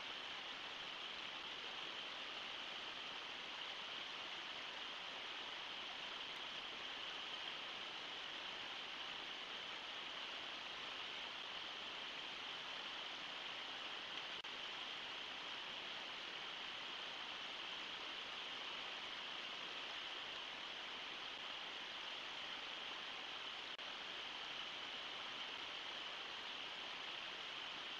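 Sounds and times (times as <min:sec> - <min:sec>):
water rushing over waterfall: 0:00.0 - 0:27.9.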